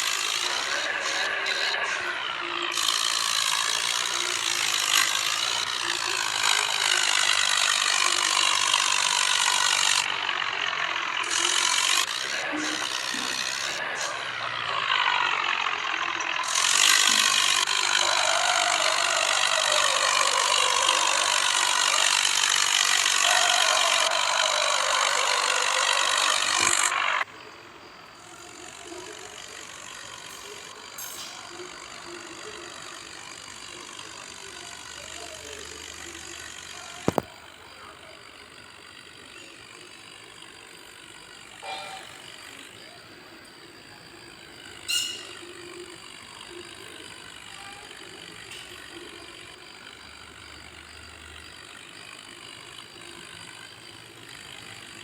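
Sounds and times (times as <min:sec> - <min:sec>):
mechanical whirr with gear rattle: 0:00.0 - 0:55.0.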